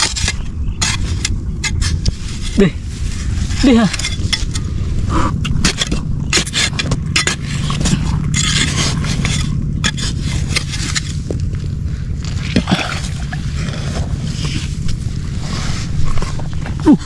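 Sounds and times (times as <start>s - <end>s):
digging in wet earth: 0.0s - 17.0s
low motor drone: 0.0s - 17.0s.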